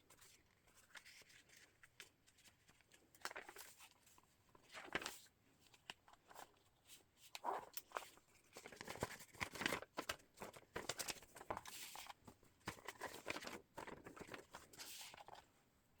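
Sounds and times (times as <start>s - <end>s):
paper pages rustling: 0.1s - 15.5s.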